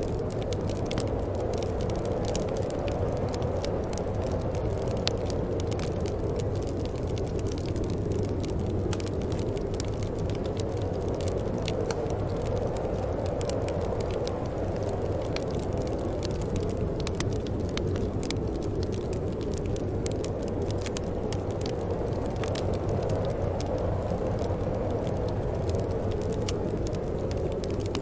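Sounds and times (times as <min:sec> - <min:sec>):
steady low wind: 0:00.0 - 0:28.0
wood fire crackling: 0:00.0 - 0:28.0.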